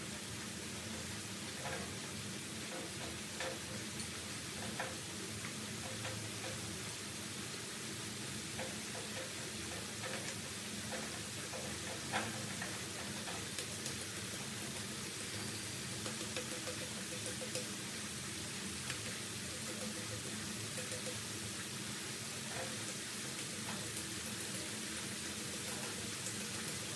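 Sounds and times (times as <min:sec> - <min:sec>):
potatoes sizzling in hot oil: 0:00.0 - 0:26.9
oil popping and crackling: 0:00.7 - 0:06.9, 0:08.3 - 0:26.9.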